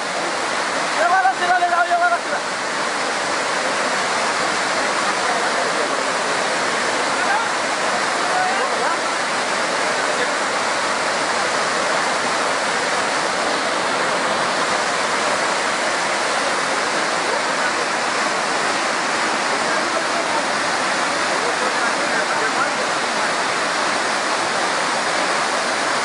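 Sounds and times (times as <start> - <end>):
flooded river rushing: 0.0 - 26.0.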